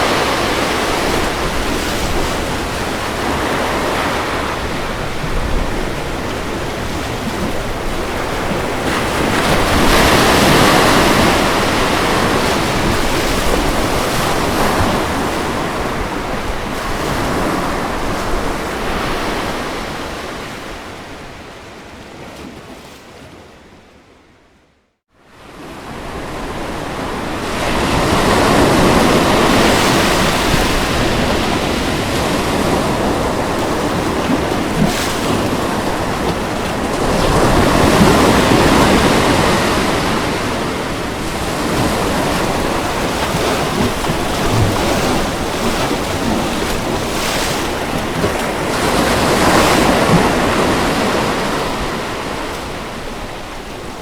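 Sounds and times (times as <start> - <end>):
ocean surf on beach: 0.0 - 23.6, 25.2 - 54.0.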